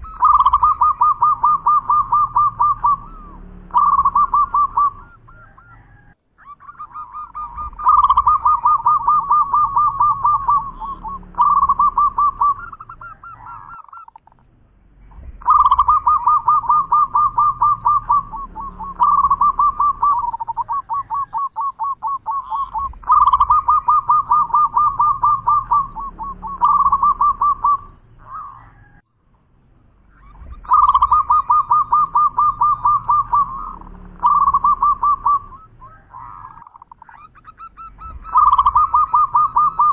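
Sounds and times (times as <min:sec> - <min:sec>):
dove cooing: 0:00.0 - 0:14.5, 0:15.2 - 0:29.0, 0:30.1 - 0:39.9.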